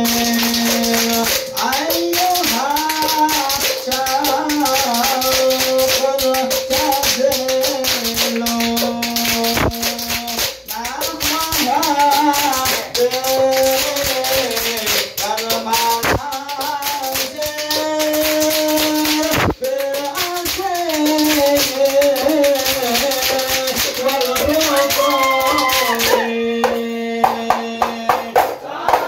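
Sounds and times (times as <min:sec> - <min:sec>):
frame drums beating: 0:00.0 - 0:29.0
group singing in unison: 0:00.0 - 0:29.0
rhythmic hand-clapping: 0:00.0 - 0:29.0.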